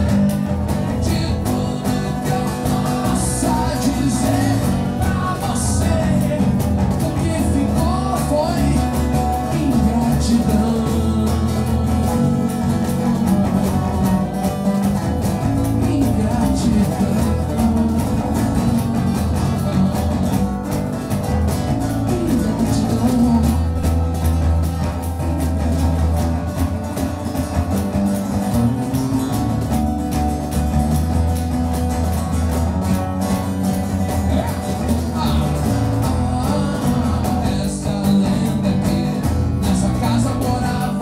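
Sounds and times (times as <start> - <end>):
acoustic guitar strummed: 0.0 - 41.0
cajon beat: 0.0 - 41.0.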